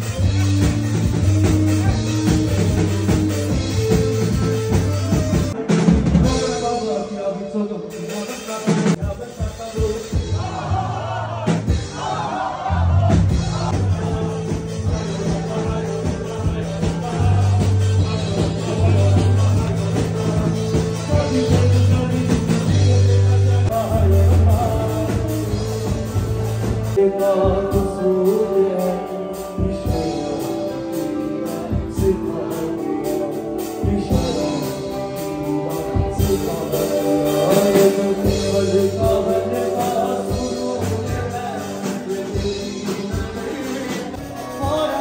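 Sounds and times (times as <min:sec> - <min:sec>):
electric guitar: 0:00.0 - 0:06.6, 0:13.4 - 0:45.0
deep bass notes: 0:00.0 - 0:06.8, 0:10.1 - 0:43.4
drums: 0:00.0 - 0:45.0
keyboard: 0:00.0 - 0:45.0
man singing: 0:00.0 - 0:45.0.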